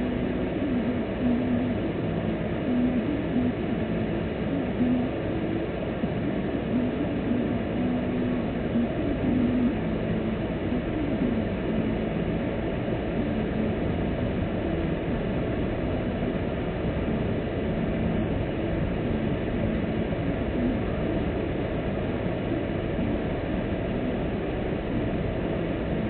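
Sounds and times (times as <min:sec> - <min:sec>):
car engine hum: 0:00.0 - 0:26.0.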